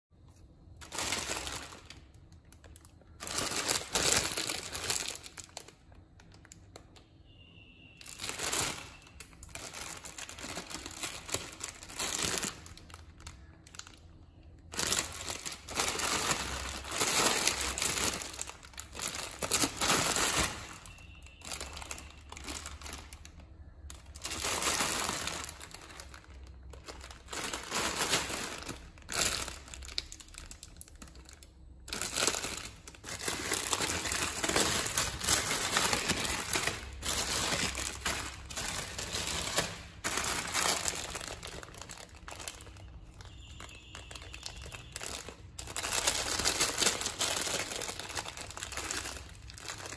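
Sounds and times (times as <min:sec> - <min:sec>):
plastic wrapper crinkling: 0:00.2 - 0:49.9.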